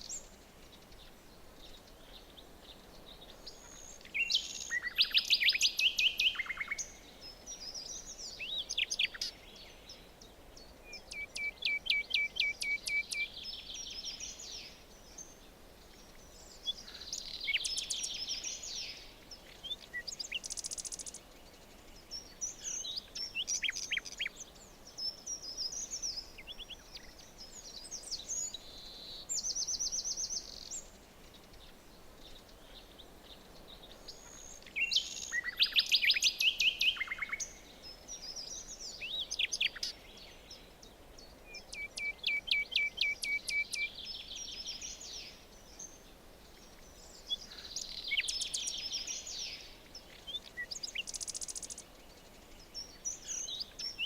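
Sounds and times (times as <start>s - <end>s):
faint background hiss: 0.0s - 54.0s
songbirds singing and calling: 0.0s - 54.0s.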